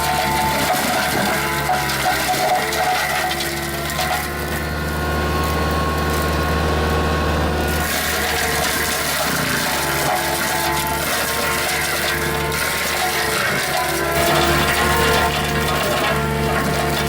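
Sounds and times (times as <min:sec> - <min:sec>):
excavator engine running: 0:00.0 - 0:17.0
mulcher shredding: 0:00.0 - 0:17.0.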